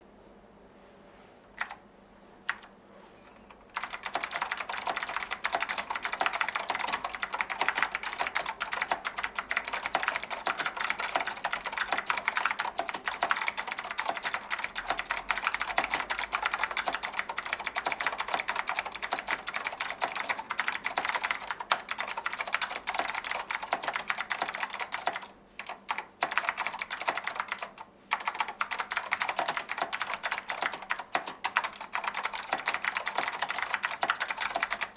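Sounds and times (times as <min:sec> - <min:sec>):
clicky keyboard typing: 0:01.6 - 0:01.8, 0:02.5 - 0:02.7, 0:03.3 - 0:34.9.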